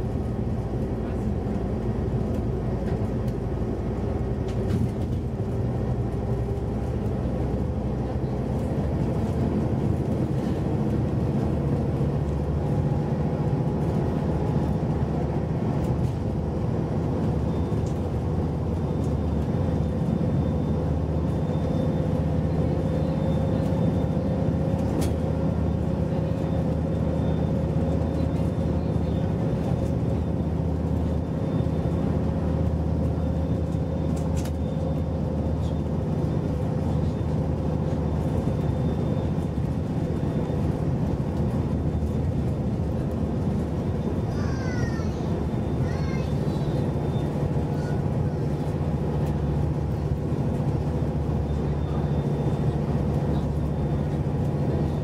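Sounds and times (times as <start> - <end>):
bus diesel engine drone: 0.0 - 55.0
road and tyre noise: 0.0 - 55.0.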